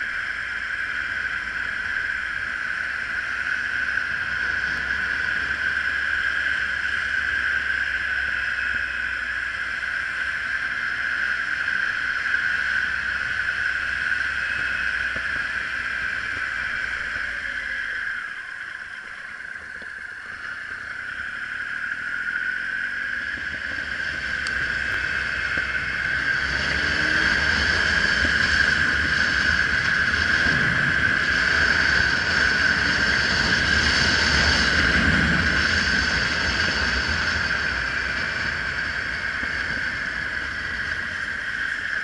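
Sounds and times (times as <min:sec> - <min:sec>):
motorcycle engine: 0:00.0 - 0:42.0
wind noise: 0:00.0 - 0:42.0.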